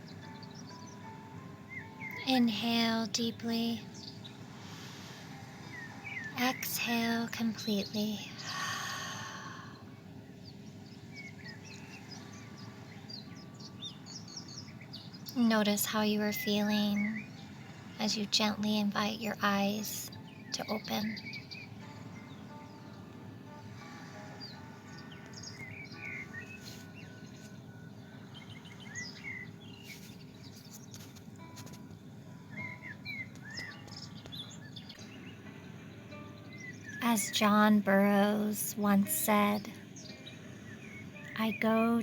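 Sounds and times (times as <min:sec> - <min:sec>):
faint steady hiss: 0:00.0 - 0:42.0
small birds chirping: 0:00.0 - 0:42.0.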